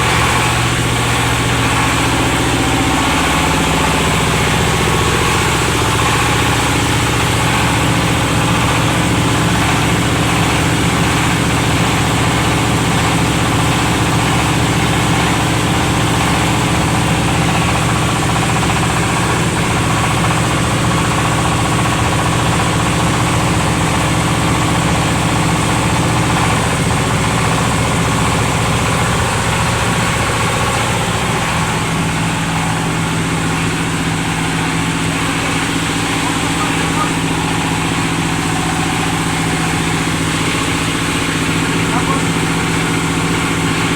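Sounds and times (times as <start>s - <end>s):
thresher engine humming: 0.0s - 43.9s.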